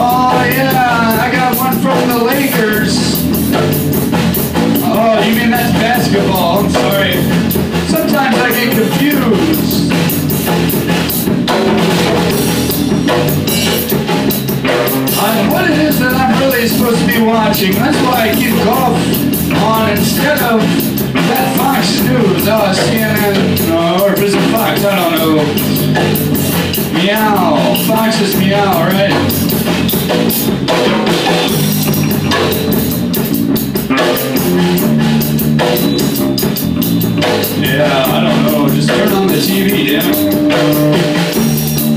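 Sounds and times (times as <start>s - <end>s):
drum kit playing: 0.0s - 41.9s
electric bass guitar: 0.0s - 41.9s.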